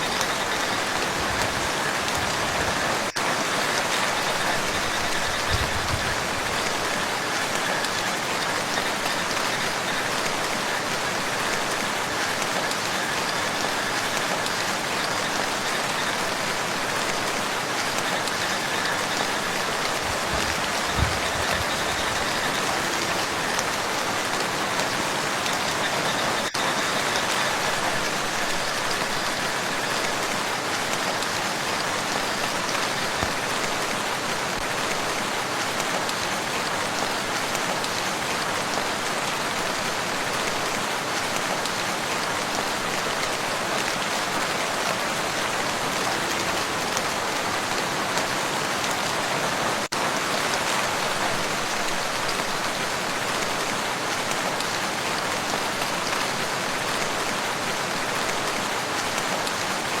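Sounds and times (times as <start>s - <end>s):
rain falling on a lake: 0.0s - 60.0s.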